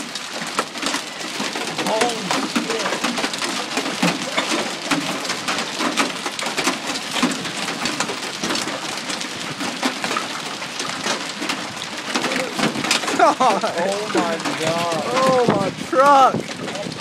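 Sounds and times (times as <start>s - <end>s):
hailstones clicking on cars: 0.0s - 17.0s
rain hissing on pavement: 0.0s - 17.0s.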